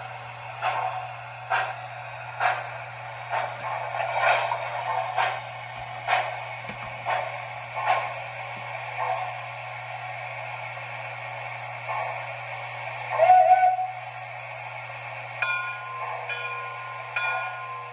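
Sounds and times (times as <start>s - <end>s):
model train steam chuffs: 0.0s - 17.9s
steady low hum: 0.0s - 17.9s.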